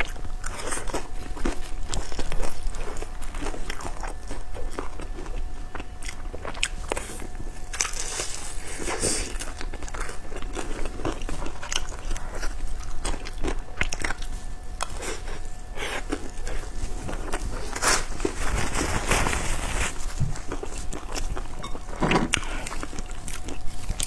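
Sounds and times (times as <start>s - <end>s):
biting and chewing food: 0.0s - 24.0s.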